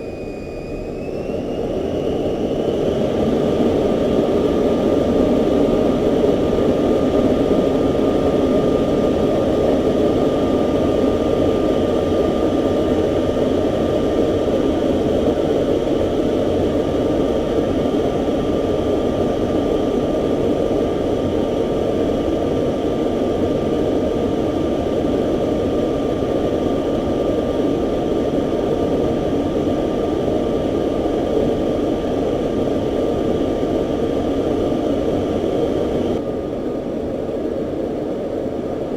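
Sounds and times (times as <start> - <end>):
jet engine running: 0.0 - 38.9.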